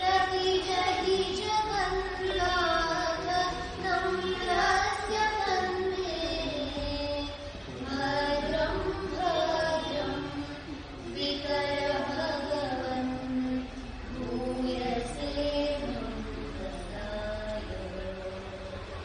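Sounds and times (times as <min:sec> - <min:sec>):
women chanting a prayer: 0:00.0 - 0:19.0.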